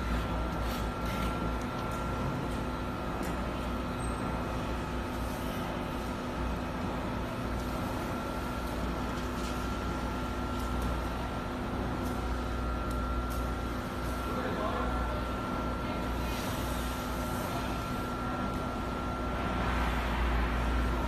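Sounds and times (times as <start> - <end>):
high machine whine: 0.0 - 21.0
machine drone with rumble: 0.0 - 21.0.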